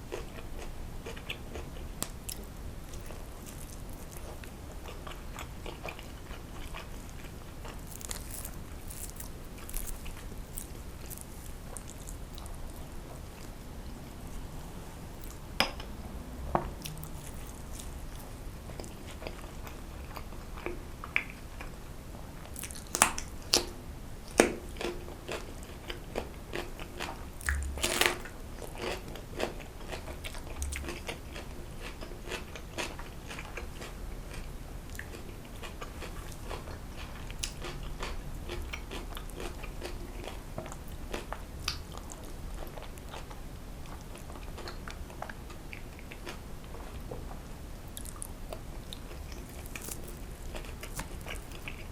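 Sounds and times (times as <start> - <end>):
chewing and biting: 0.1 - 14.4, 16.8 - 21.8, 22.4 - 23.7, 24.3 - 47.3, 47.9 - 51.9.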